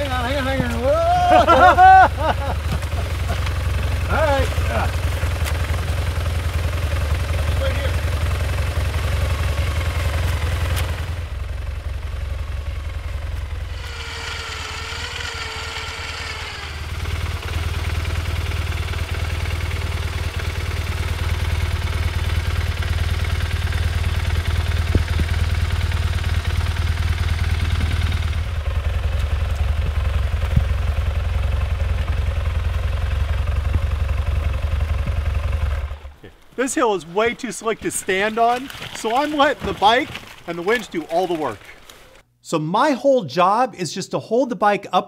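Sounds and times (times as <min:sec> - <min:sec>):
motorcycle engine idling: 0:00.0 - 0:38.3.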